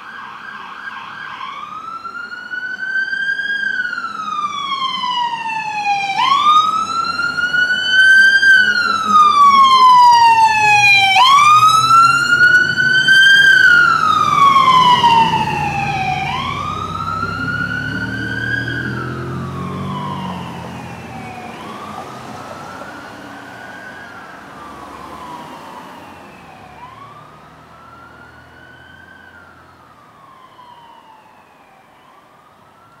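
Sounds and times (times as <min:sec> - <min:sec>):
electronic siren wailing: 0:00.0 - 0:32.2
passing vehicles rumble: 0:00.0 - 0:33.0.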